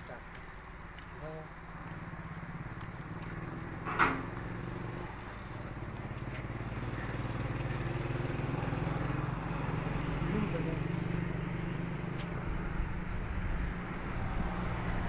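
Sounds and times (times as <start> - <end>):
engine humming: 0.6 - 15.0.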